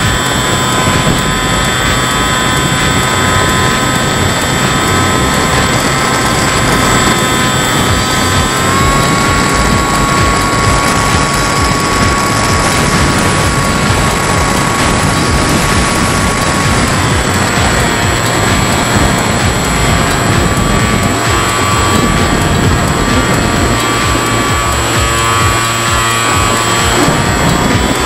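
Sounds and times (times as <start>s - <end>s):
electric motor and propeller whine: 0.0s - 28.0s
wind rushing on microphone: 0.0s - 28.0s.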